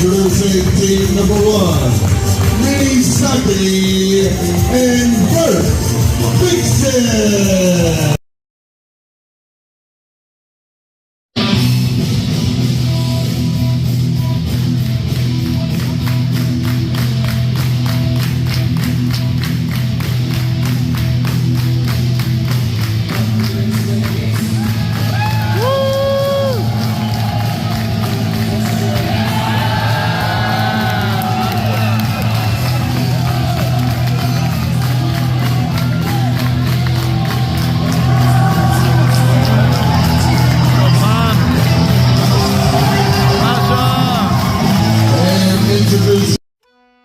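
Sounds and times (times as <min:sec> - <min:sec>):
rock music over arena speakers: 0:00.0 - 0:08.2, 0:11.4 - 0:46.4.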